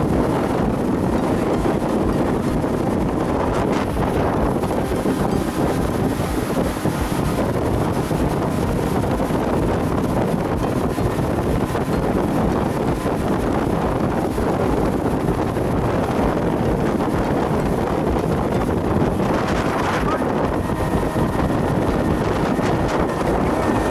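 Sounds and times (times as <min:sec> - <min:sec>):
boat motor: 0:00.0 - 0:23.9
rushing water: 0:00.0 - 0:23.9
wind buffeting microphone: 0:00.0 - 0:23.9.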